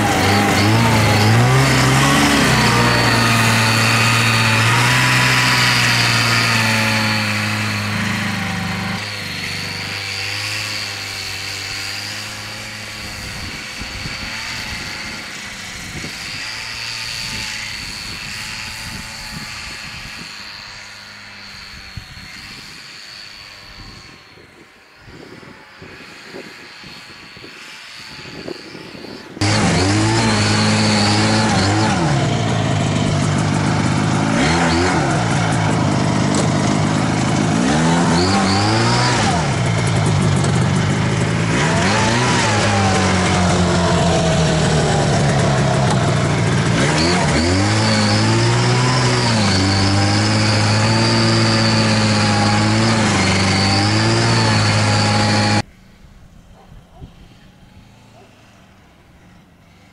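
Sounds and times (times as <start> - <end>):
snowmobile engine under throttle: 0.0 - 59.9.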